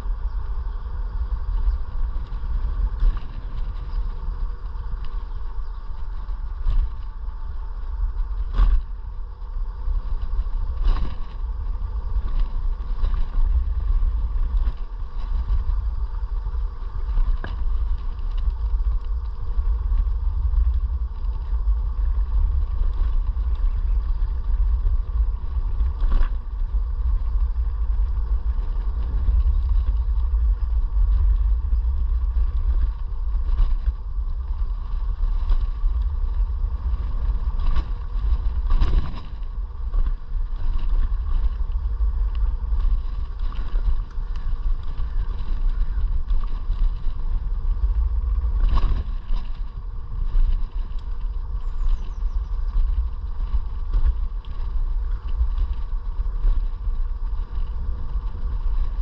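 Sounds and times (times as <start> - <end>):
steady hum: 0.0 - 59.0
wind rumble on microphone: 0.0 - 59.0.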